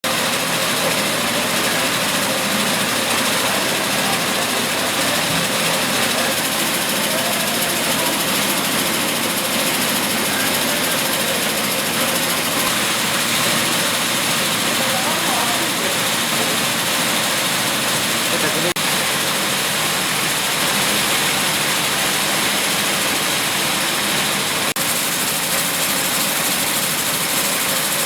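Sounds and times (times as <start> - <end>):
weaving machine running: 0.0 - 28.0.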